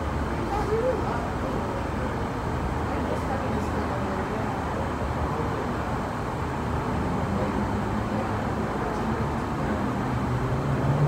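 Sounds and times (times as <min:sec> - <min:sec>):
aerial cable car rumble: 0:00.0 - 0:11.0.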